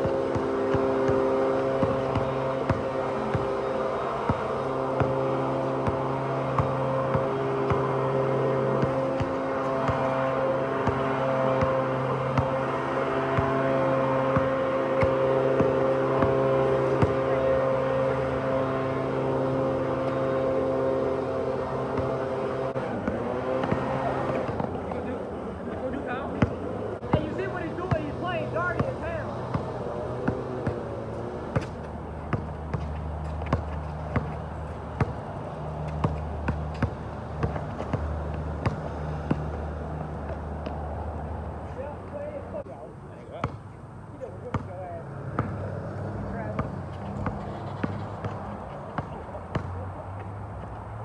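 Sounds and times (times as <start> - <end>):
basketball bouncing on asphalt: 0.0 - 20.4, 21.8 - 25.7, 26.3 - 42.3, 43.4 - 50.9.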